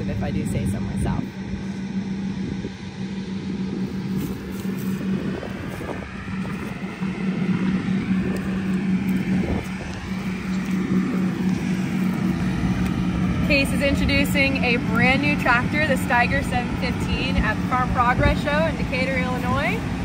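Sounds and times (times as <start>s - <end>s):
tractor diesel engines humming: 0.0s - 20.0s
wind buffeting microphone: 0.0s - 20.0s.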